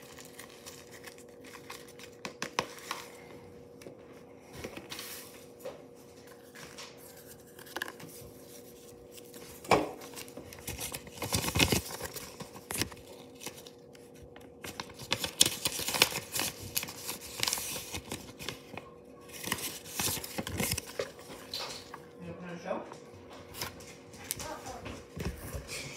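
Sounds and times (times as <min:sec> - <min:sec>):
paper rustling: 0:00.0 - 0:03.3, 0:04.5 - 0:22.0, 0:23.3 - 0:25.9.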